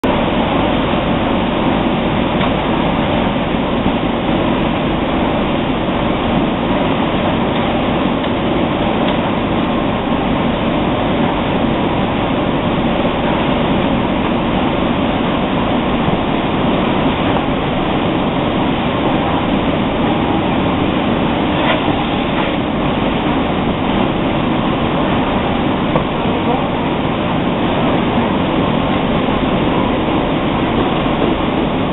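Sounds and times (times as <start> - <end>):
packing machinery running: 0.0 - 31.9.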